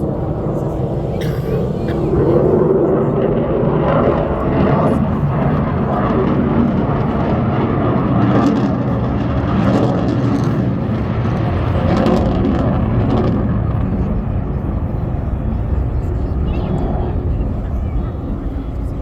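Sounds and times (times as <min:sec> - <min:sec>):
aircraft engine noise: 0:00.0 - 0:19.0.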